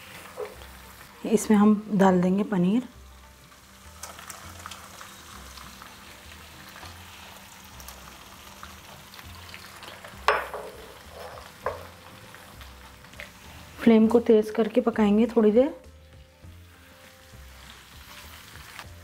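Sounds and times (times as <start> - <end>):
masala sizzling in frying pan: 0.0 - 19.0.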